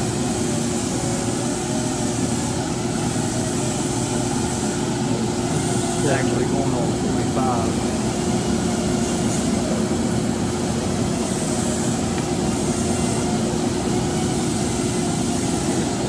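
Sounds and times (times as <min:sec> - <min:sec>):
lathe mechanical drone: 0:00.0 - 0:16.0.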